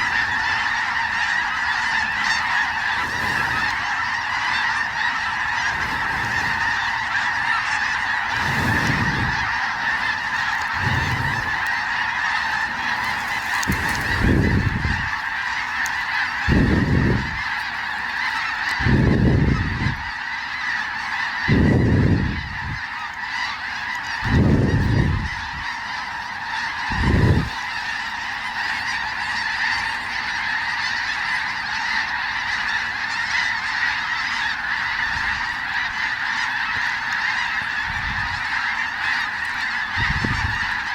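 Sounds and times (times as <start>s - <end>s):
geese honking: 0.0s - 40.9s.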